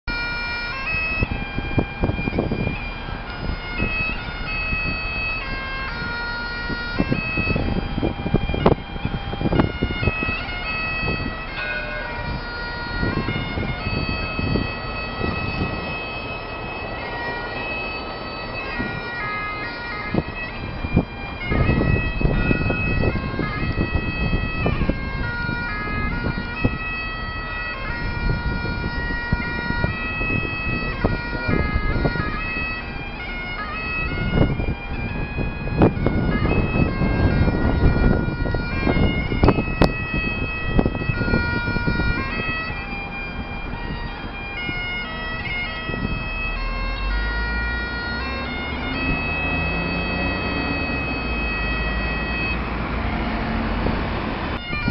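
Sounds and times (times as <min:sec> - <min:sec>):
bagpipes playing a tune: 0:00.1 - 0:54.9
low rumble of street traffic: 0:00.1 - 0:54.9.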